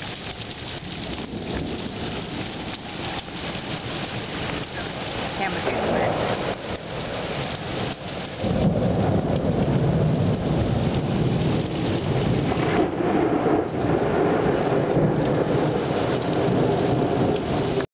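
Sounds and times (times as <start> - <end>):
heavy rain pouring: 0.0 - 17.9
thunder rumbling: 0.0 - 17.9.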